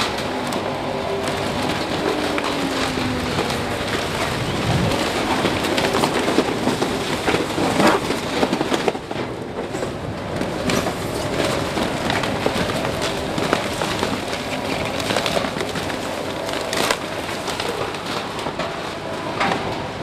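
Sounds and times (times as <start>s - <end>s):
cardboard crackling and crunching: 0.0s - 9.1s, 10.4s - 19.1s.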